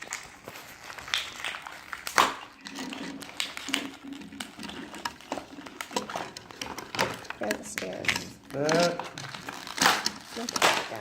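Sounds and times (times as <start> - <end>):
plastic packaging rustling: 0.0 - 11.0
plastic toy parts clicking: 2.1 - 11.0.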